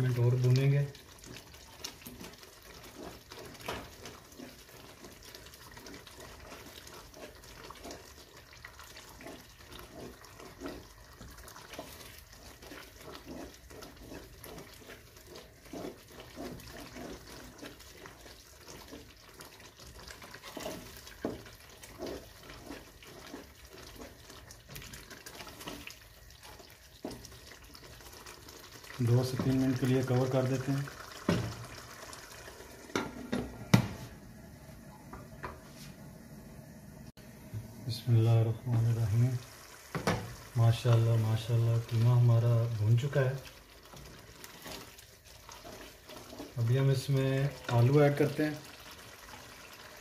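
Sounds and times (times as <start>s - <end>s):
meat sizzling in oil: 0.0s - 34.0s, 38.1s - 50.0s
wooden spatula scraping a pot: 0.0s - 34.2s, 38.7s - 50.0s.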